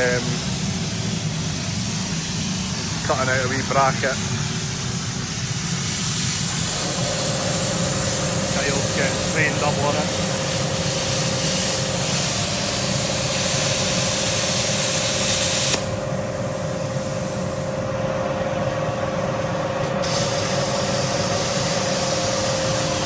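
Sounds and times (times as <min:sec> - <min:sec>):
plasma cutter hissing: 0:00.0 - 0:23.0
steady machine hum: 0:00.0 - 0:23.0.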